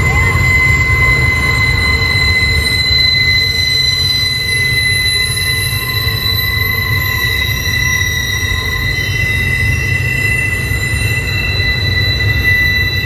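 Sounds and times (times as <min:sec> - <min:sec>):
low rumble of train cars: 0:00.0 - 0:13.0
train wheels squealing: 0:00.0 - 0:13.0.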